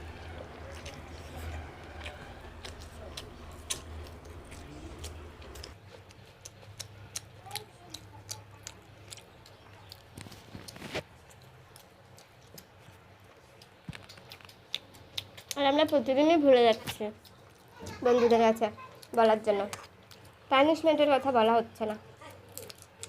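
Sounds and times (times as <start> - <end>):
chewing clicks and smacks: 0.5 - 16.1, 16.7 - 17.8, 18.8 - 20.5, 22.4 - 23.0.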